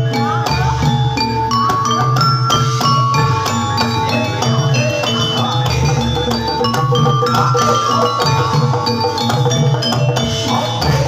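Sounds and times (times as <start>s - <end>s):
gamelan music: 0.0s - 11.0s
steady drum beat: 0.0s - 11.0s.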